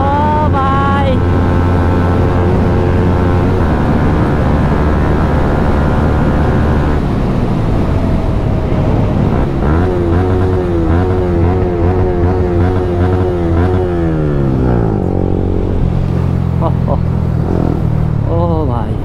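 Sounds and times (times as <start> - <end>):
motorcycle engine revving: 0.0 - 18.8.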